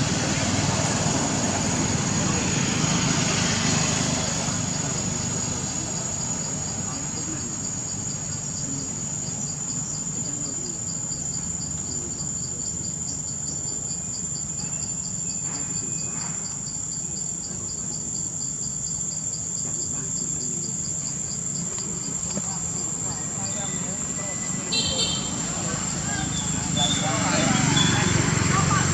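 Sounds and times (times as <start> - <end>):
insects buzzing high-pitched: 0.0 - 28.9
rapid pulsed insect chirp: 0.0 - 28.9.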